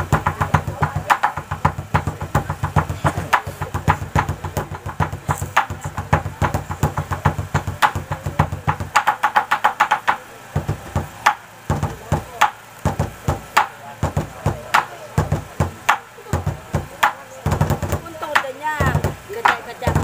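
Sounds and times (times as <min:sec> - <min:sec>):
rapid knocking percussion: 0:00.0 - 0:20.0.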